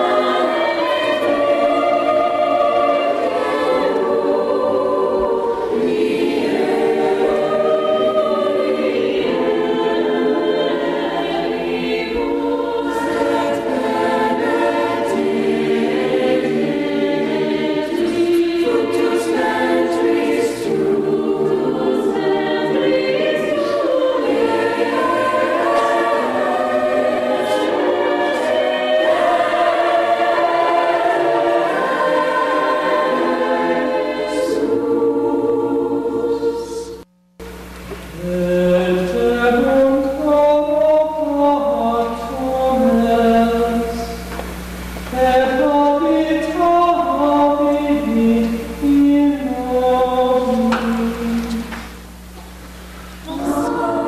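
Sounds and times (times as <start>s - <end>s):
mixed choir singing long chords: 0.0s - 54.0s.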